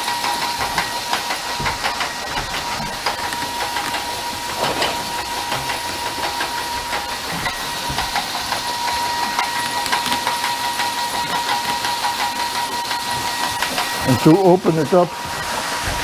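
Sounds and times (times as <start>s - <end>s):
grain auger whining: 0.0s - 16.0s.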